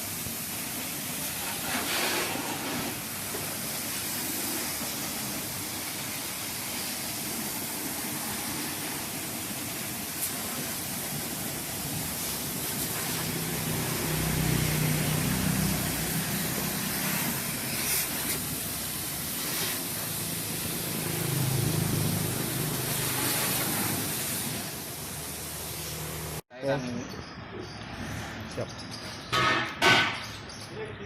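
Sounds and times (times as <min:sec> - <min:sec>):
water spraying hiss: 0:00.0 - 0:26.4.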